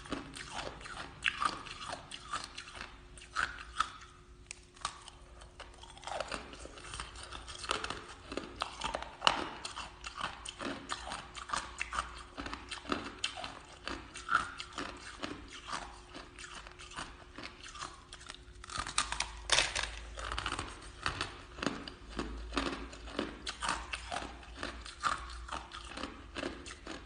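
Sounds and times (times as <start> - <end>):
ice crunching while chewed: 0.0 - 27.0.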